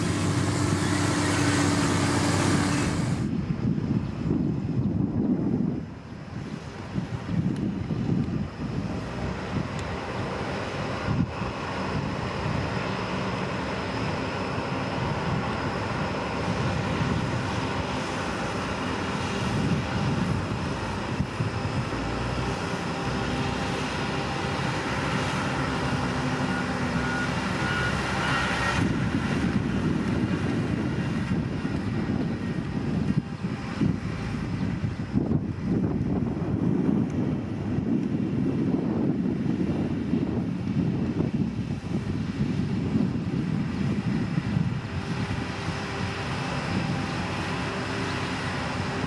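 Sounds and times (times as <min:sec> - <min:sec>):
diesel engine running under load: 0:00.0 - 0:49.0.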